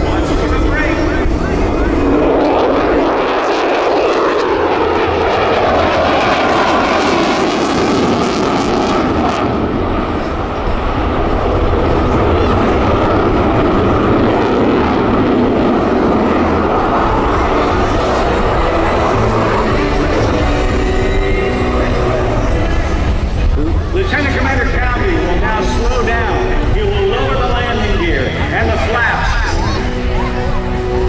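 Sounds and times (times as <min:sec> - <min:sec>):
jet whine falling in pitch: 0:00.0 - 0:30.0
jet engine roaring: 0:00.0 - 0:31.0.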